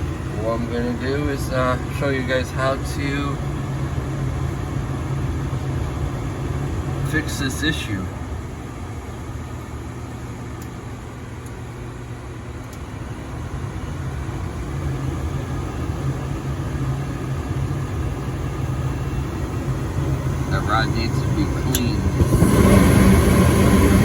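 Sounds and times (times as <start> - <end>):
gas furnace rumbling: 0.0 - 24.0.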